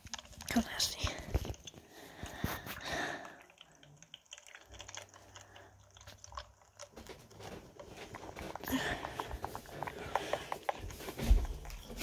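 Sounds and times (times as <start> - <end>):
clicks and crackles: 0.0 - 12.0.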